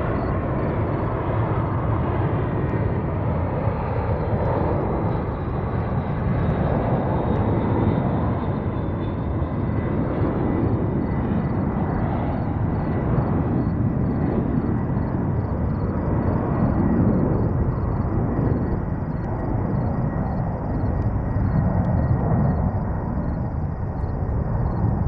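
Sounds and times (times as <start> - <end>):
faint high engine whine: 0.0 - 25.0
jet engines rumbling: 0.0 - 25.0.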